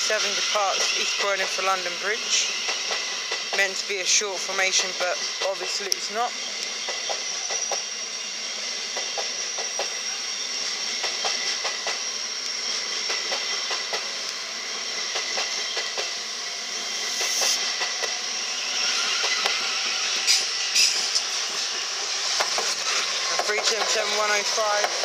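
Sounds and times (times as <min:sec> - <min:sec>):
train rolling past: 0:00.0 - 0:25.0.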